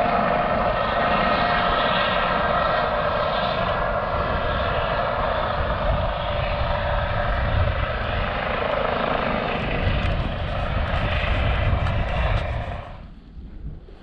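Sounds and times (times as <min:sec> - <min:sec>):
helicopter flying past: 0:00.0 - 0:13.9.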